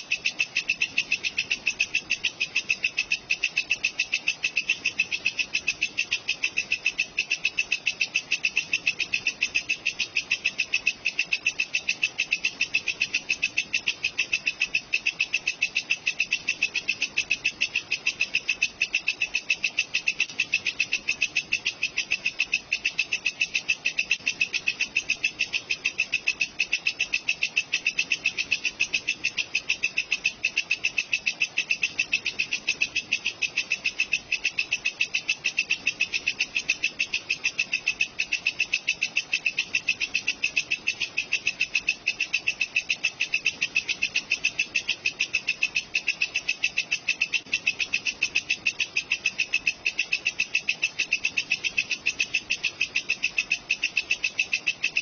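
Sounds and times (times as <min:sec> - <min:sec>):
insect trilling: 0:00.0 - 0:55.0.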